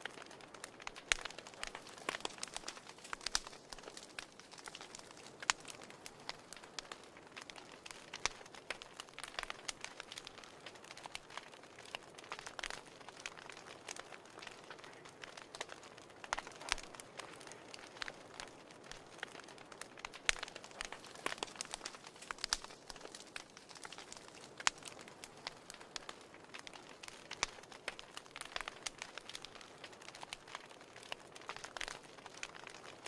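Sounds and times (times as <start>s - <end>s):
soft hiss of fire: 0.0s - 33.0s
wood fire crackling and popping: 0.0s - 33.0s.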